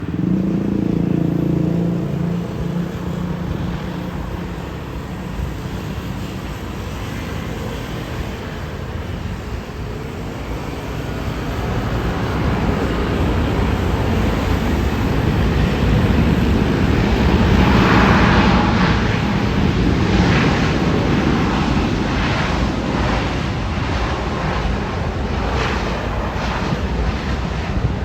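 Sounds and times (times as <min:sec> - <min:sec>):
jet airliner landing roar: 0:00.0 - 0:28.0
wind gusts on microphone: 0:00.0 - 0:28.0.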